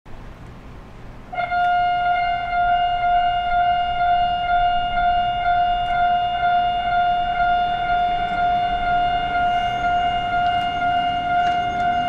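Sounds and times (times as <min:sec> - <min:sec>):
level-crossing warning bell: 0:01.4 - 0:12.0.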